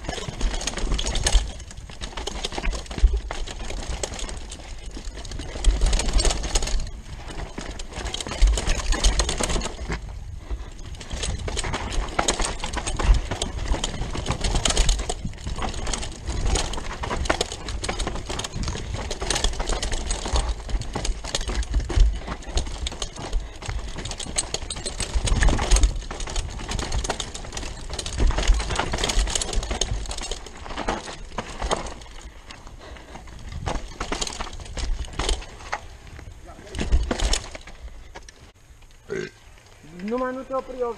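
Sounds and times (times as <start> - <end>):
mountain bike rattling: 0.0 - 40.9
tyres on loose dirt: 0.0 - 40.9.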